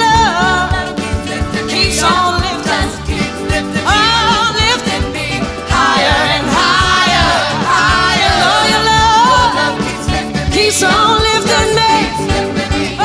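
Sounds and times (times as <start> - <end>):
woman singing: 0.0 - 6.8, 7.8 - 13.0
steady drum beat: 0.0 - 13.0.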